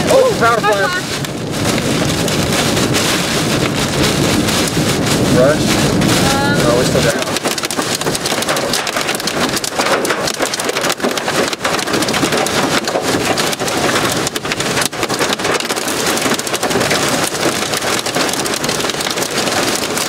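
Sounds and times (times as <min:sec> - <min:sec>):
heavy rain on vehicle: 0:00.0 - 0:20.0.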